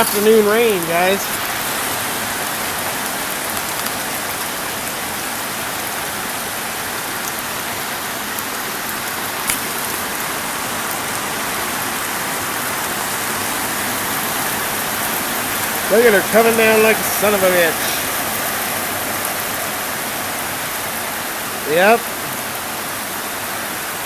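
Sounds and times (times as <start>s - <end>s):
heavy rain pattering: 0.0s - 24.0s.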